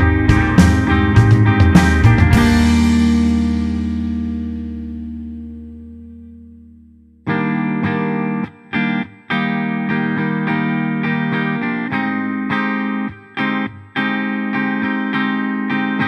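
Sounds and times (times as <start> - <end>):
plucked guitar music: 0.0 - 16.0.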